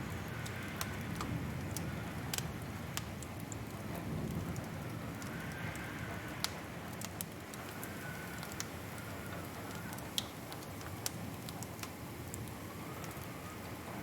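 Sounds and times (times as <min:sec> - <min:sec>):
low rush of flames: 0:00.0 - 0:14.0
wood fire crackling: 0:00.0 - 0:14.0.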